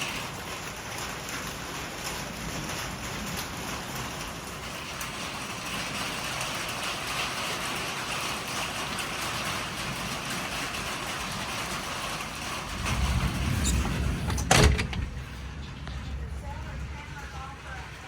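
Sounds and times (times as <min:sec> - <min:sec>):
heavy rain hissing: 0:00.0 - 0:18.0.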